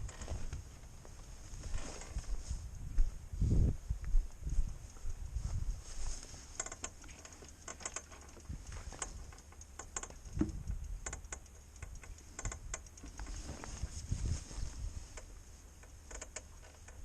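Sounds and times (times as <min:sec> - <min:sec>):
motorcycle engine clicks and ticks: 0:00.0 - 0:03.1, 0:04.0 - 0:13.9, 0:15.0 - 0:17.0.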